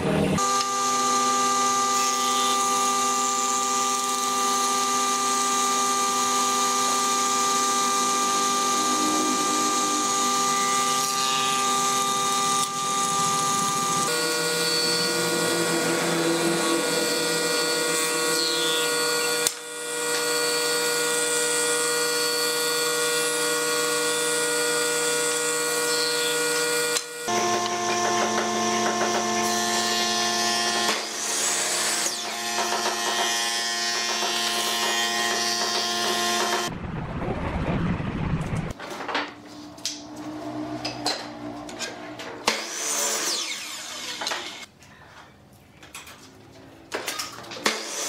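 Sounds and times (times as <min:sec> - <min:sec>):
wood planer whining: 0:00.0 - 0:36.7, 0:39.5 - 0:44.7.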